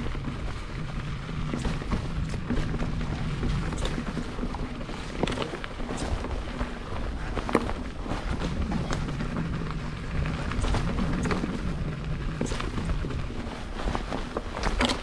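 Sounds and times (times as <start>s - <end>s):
bike clicks and knocks: 0.0s - 15.0s
bike tyres rumbling on dirt: 0.0s - 15.0s.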